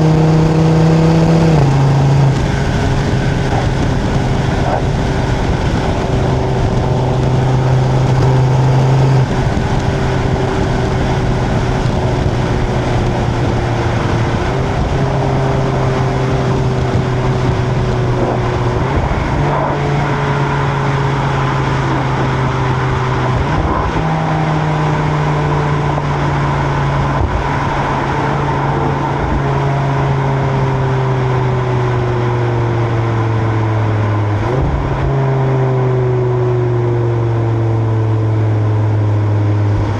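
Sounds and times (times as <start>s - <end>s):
tyre and wind noise: 0.0s - 37.8s
turbo car engine exhaust: 0.0s - 39.9s.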